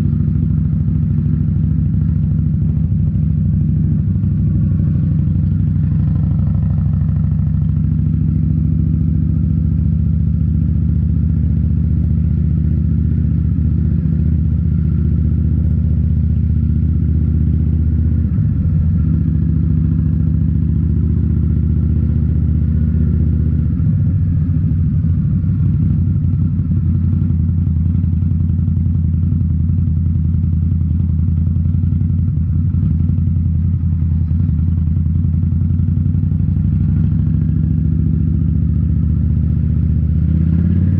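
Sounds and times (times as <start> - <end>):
motorcycle engine exhaust: 0.0 - 40.9.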